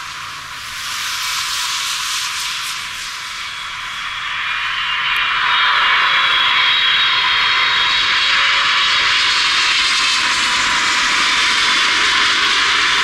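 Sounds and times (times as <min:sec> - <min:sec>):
jet engine roar overhead: 0:00.0 - 0:13.0.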